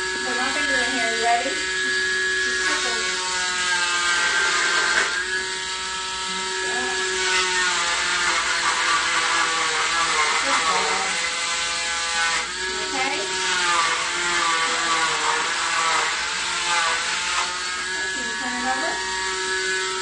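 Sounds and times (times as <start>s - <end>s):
cast saw motor whine: 0.0s - 20.0s.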